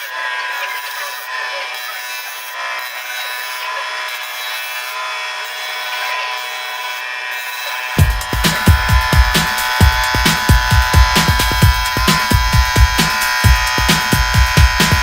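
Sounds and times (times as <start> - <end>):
lathe whine: 0.0 - 15.0
turning tool scraping wood: 0.0 - 15.0.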